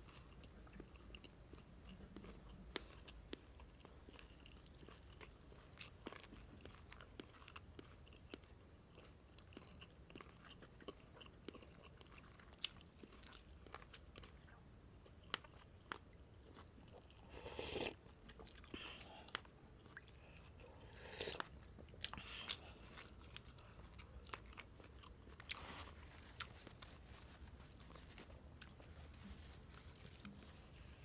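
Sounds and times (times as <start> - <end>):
close chewing and biting: 0.0 - 31.0.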